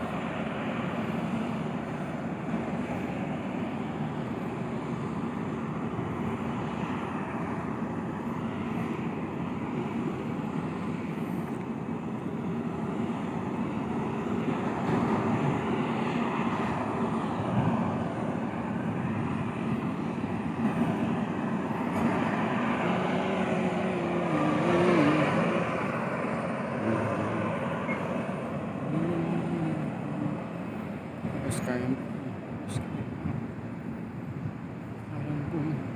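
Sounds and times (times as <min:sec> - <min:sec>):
vehicle engine noise: 0:00.0 - 0:35.9.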